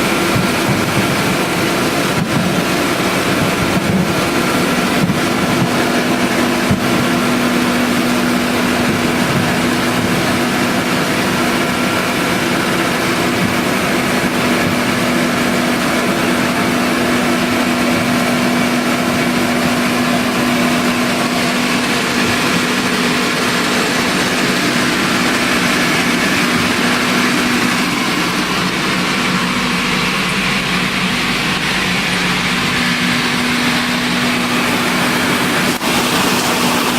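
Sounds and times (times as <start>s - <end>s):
loud even hiss: 0.0s - 36.9s
washing machine motor hum: 0.0s - 36.9s.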